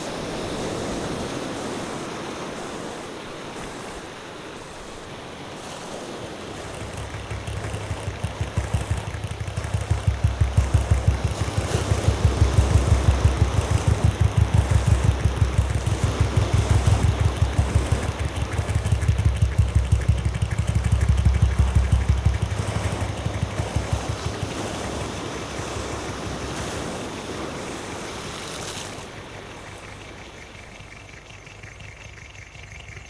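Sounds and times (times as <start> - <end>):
engine chugging: 5.9 - 33.0.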